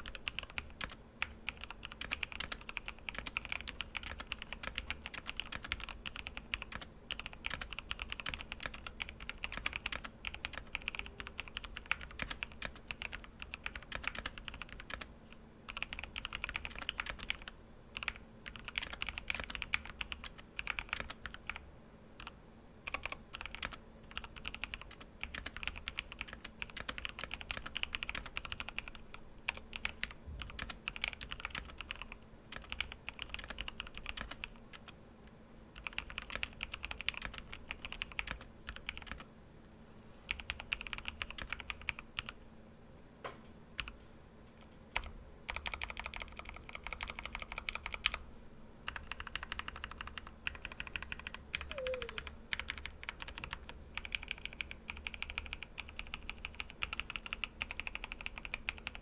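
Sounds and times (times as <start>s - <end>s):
mechanical keyboard keys clacking: 0.0s - 15.0s, 15.7s - 21.6s, 22.9s - 34.8s, 35.8s - 39.2s, 40.3s - 42.3s, 44.6s - 48.2s, 48.9s - 59.0s.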